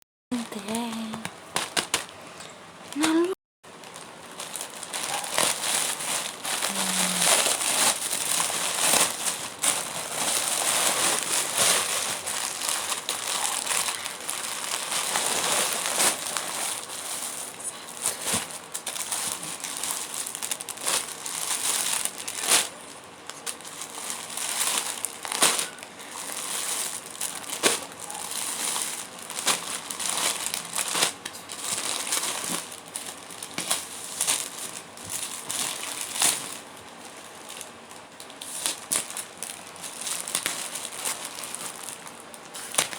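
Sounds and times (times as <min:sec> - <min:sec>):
packaging crinkling and crackling: 0:00.3 - 0:42.9.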